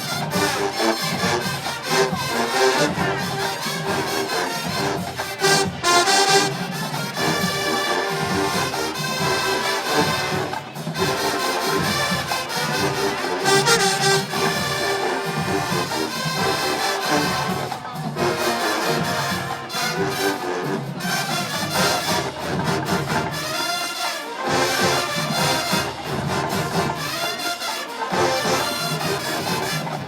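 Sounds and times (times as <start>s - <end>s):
brass marching band playing: 0.0s - 30.0s
drums keeping the beat: 0.0s - 30.0s.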